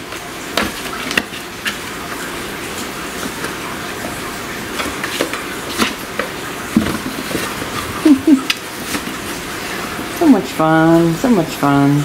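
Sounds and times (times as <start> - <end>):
cardboard rustling: 0.1 - 10.2.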